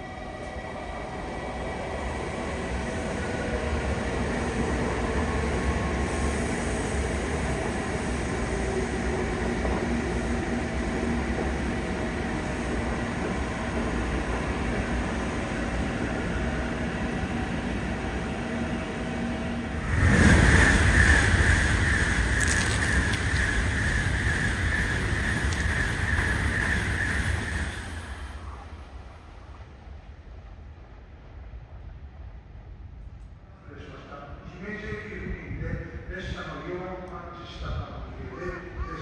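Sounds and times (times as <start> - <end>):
train rumbling: 0.0 - 38.5.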